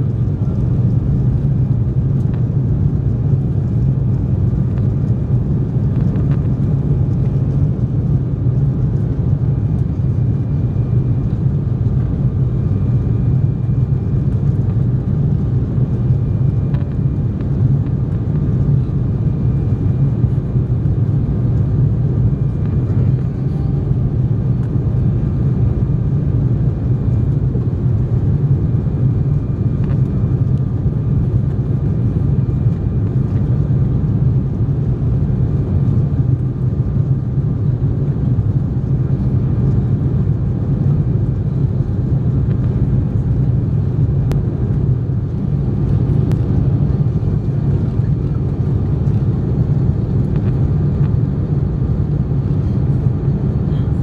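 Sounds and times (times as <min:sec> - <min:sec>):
jet engines roaring in cabin: 0:00.0 - 0:54.0.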